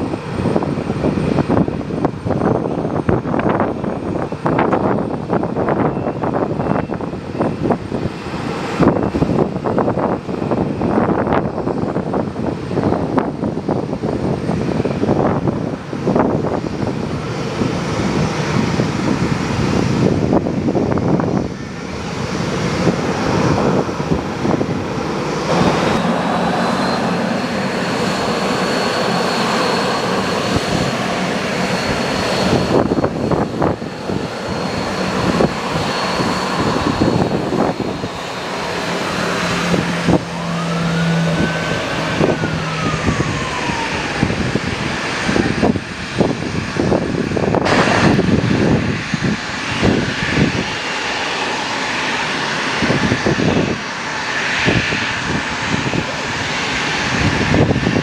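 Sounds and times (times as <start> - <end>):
aircraft engines whining: 0.0 - 58.0
gusty wind buffeting microphone: 0.0 - 58.0.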